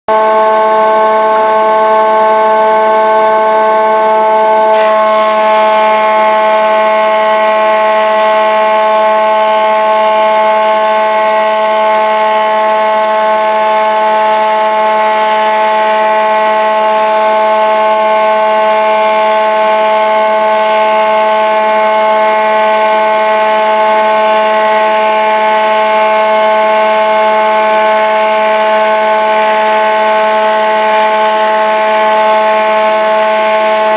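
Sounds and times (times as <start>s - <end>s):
wood planer whining: 0.1s - 33.9s.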